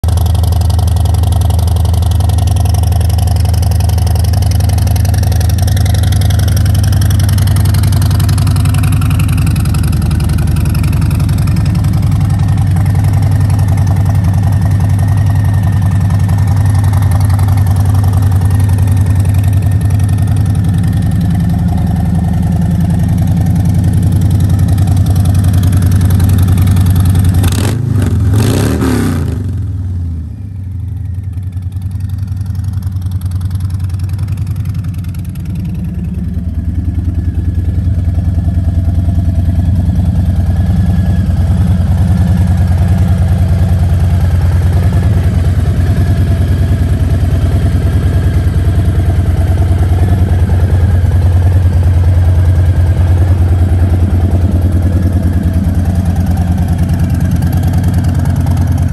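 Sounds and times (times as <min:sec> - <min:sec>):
motorcycle engine idling: 0:00.0 - 0:28.7, 0:29.4 - 0:58.9.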